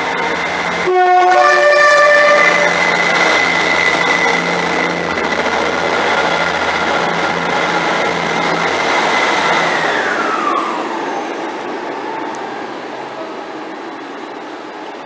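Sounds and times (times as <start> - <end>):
train high whine: 0.0 - 15.0
train rumbling past: 0.0 - 15.0.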